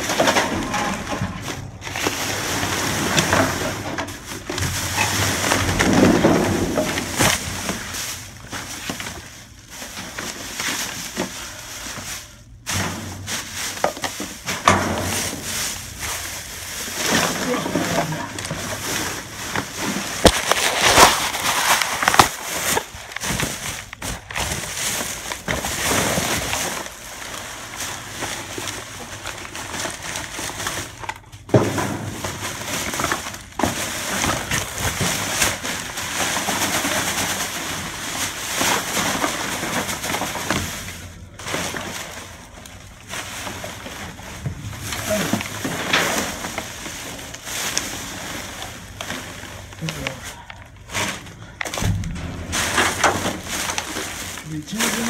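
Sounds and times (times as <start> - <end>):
plastic garbage bags crinkling: 0.0 - 55.0.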